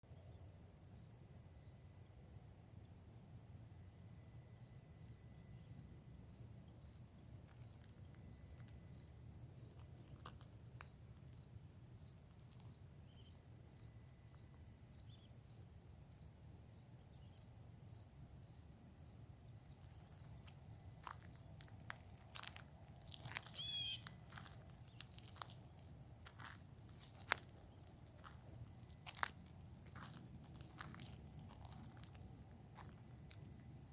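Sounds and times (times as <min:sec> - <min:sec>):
crickets trilling and chirping: 0:00.1 - 0:33.9.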